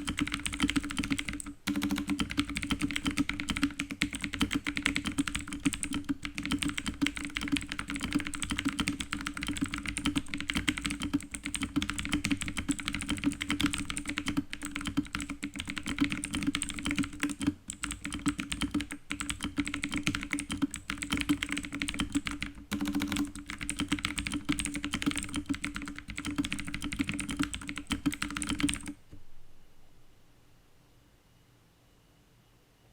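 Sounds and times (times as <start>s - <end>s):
fast mechanical keyboard typing: 0.0s - 29.0s.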